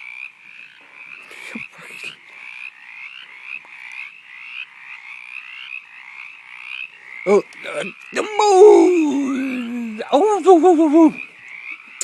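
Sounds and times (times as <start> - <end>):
frog croaking: 0.0 - 12.0.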